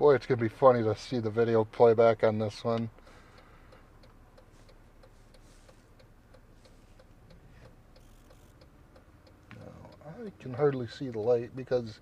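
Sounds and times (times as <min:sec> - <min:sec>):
faint regular ticking: 0:00.2 - 0:12.0.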